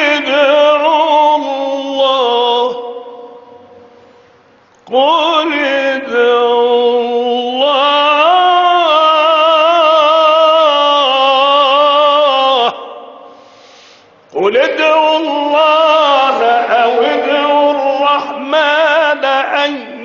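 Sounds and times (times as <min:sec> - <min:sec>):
man reciting melodically: 0:00.0 - 0:03.9, 0:04.8 - 0:20.0.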